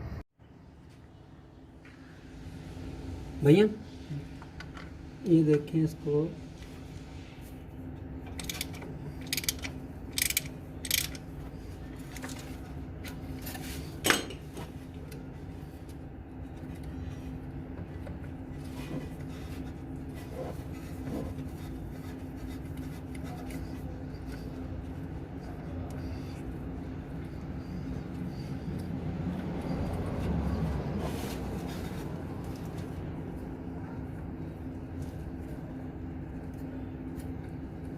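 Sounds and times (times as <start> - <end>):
low mechanical hum: 0.0 - 37.9.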